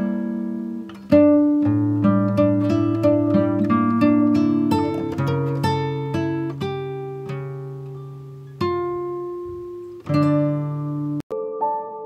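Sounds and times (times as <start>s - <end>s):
acoustic guitar plucking notes: 0.0s - 12.0s.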